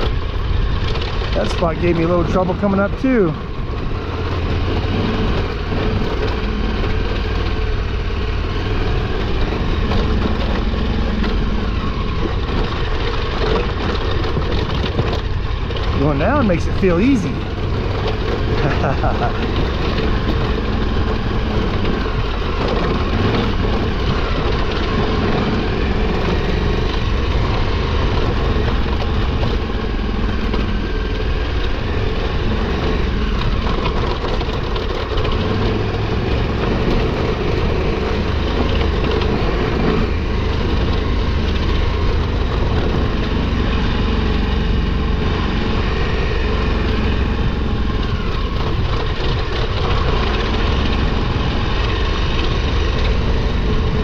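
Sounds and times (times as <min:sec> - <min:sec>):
motorcycle engine running low: 0:00.0 - 0:54.0
steady rushing noise: 0:00.0 - 0:54.0.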